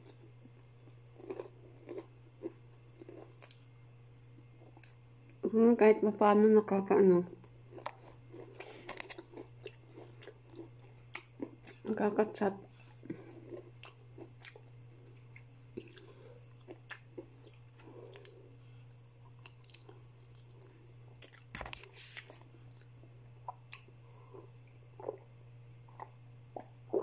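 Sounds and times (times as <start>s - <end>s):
person chewing: 0.0s - 3.7s, 4.4s - 5.0s, 7.7s - 11.9s, 12.7s - 25.3s, 25.9s - 27.0s.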